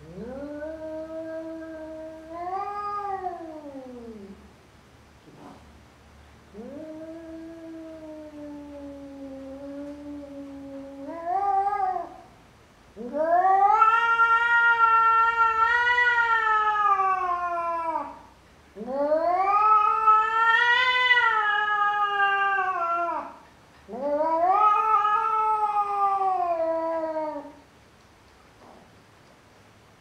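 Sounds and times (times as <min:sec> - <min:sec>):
cat yowling: 0:00.0 - 0:04.4, 0:06.5 - 0:12.3, 0:13.0 - 0:27.6.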